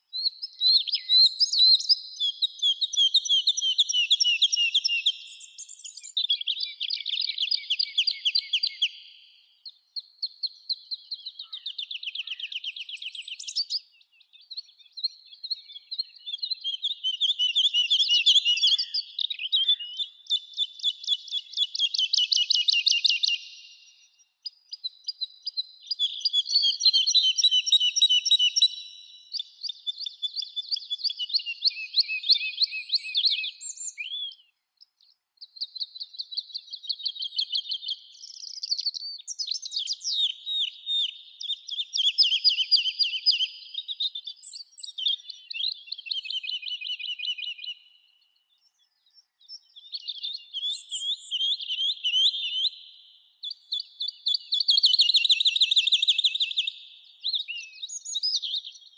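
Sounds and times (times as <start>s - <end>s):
songbirds singing trills: 0.0s - 58.9s.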